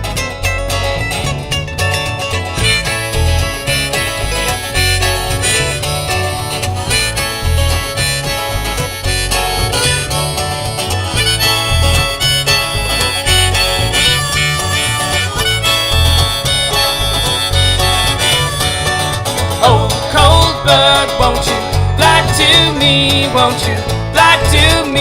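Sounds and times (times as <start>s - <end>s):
folk band playing instrumental: 0.0s - 25.0s
pulsing bass: 0.0s - 25.0s.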